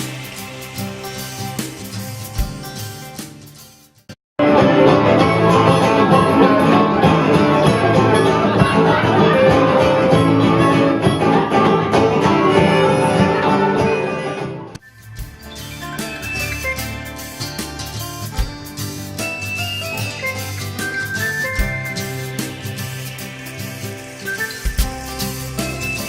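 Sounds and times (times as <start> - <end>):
bluegrass tune with plucked strings: 4.4 - 26.0.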